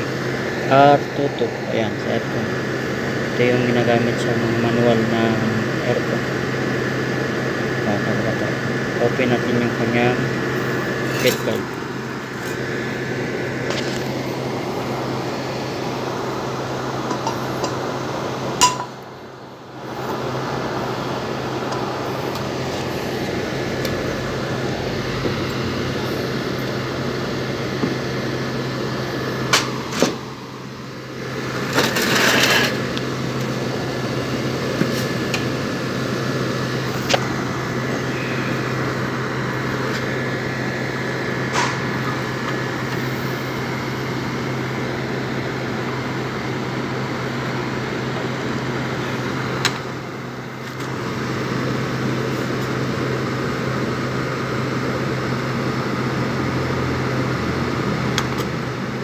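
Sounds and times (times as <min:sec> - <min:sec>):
air conditioner humming: 0:00.0 - 0:59.0.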